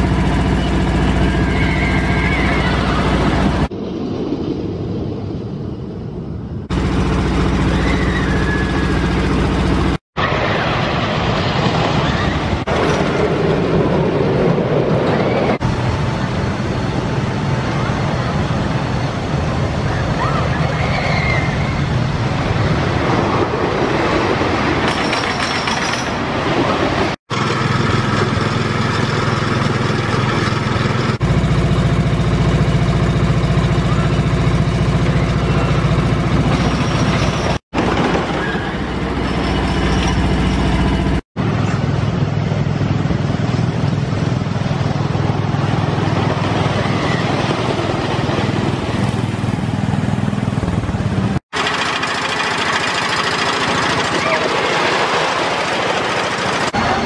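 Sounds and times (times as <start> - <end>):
roller coaster rumbling on track: 0.0 - 57.0.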